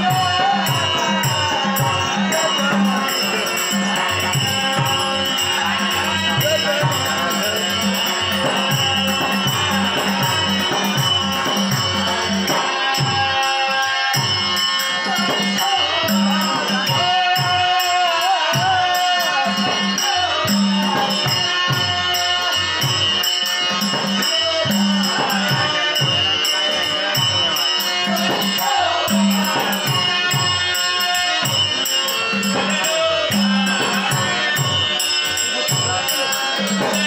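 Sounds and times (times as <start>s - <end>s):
barrel drum rhythm: 0.0s - 37.0s
man singing: 0.0s - 37.0s.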